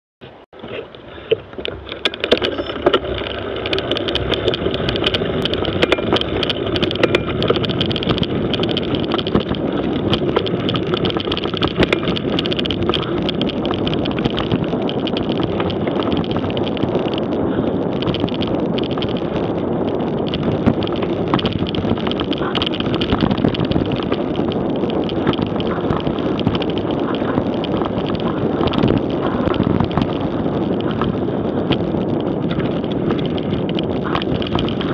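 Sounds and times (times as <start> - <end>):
bike rattling over bumps: 0.3 - 34.9
bike tyre rumble on dirt: 0.3 - 34.9
wind buffeting microphone: 0.3 - 34.9.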